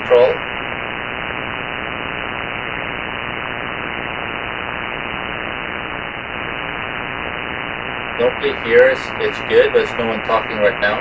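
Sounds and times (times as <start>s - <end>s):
radio interference hiss: 0.0s - 11.0s.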